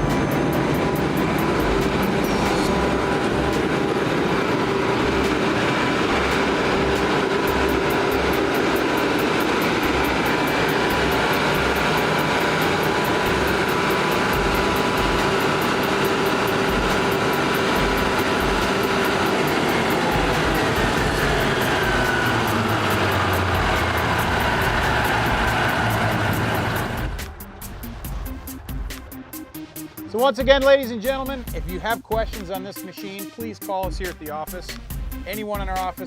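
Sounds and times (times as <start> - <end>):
diesel generator engine running: 0.0 - 36.0.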